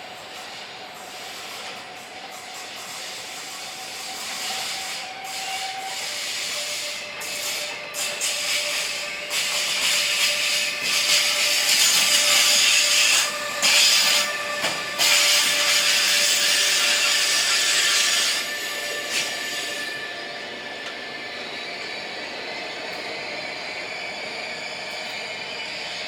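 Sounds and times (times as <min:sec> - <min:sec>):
loud train rolling noise: 0:00.0 - 0:26.0
train wheels squealing on rails: 0:00.0 - 0:26.0.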